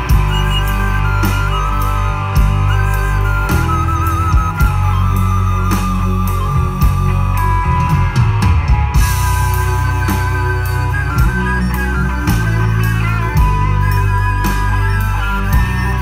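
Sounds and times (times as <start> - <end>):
live folk-rock band: 0.0 - 16.0.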